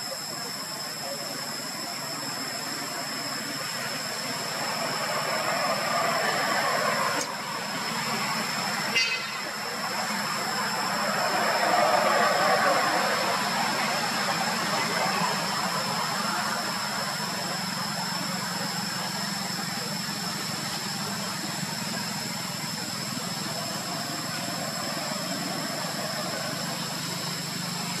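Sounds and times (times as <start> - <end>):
steady background hum: 0.0 - 28.0
thin high-pitched whine: 0.0 - 28.0.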